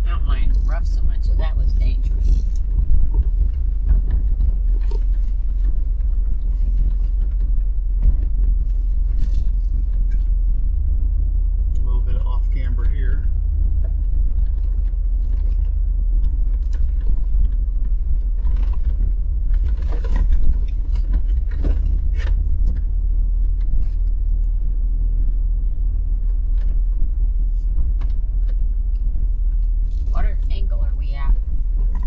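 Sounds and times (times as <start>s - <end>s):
vehicle engine and road rumble: 0.0s - 32.0s
vehicle knocks and rattles: 0.0s - 32.0s.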